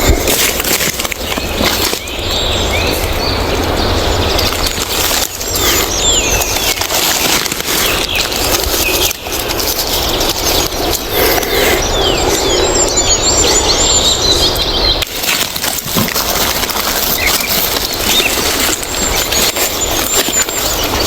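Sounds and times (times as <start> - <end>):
crackly rustling: 0.0 - 13.6, 14.8 - 21.0
small birds chirping: 0.0 - 21.0.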